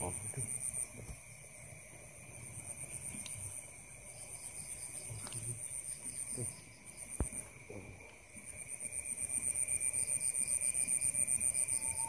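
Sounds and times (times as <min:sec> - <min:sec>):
insects trilling: 0:00.0 - 0:12.0
low insect buzz: 0:00.0 - 0:12.0.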